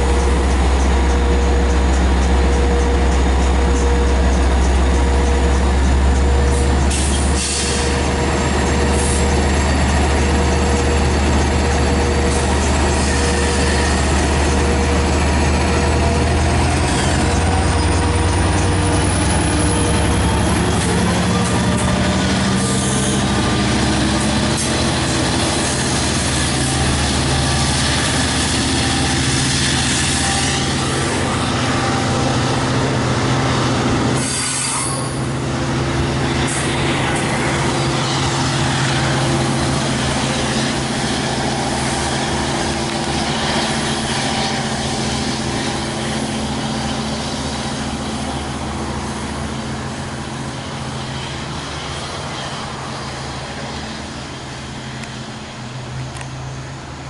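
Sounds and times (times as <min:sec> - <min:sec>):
locomotive engine running: 0:00.0 - 0:57.0
train wheel and rail noise: 0:00.0 - 0:57.0.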